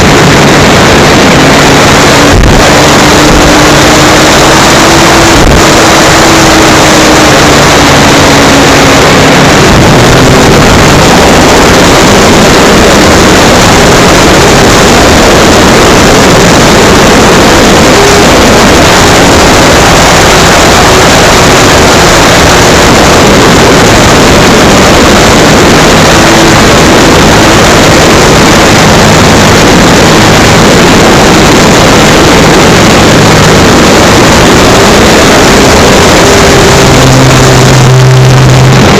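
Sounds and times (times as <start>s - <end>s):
propeller and air rush: 0.0s - 38.9s.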